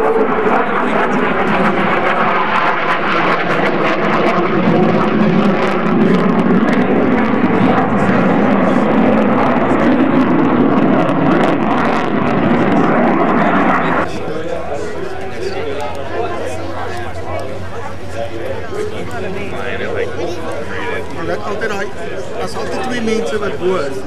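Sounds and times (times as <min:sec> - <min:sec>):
fighter jet flying overhead: 0:00.0 - 0:24.0.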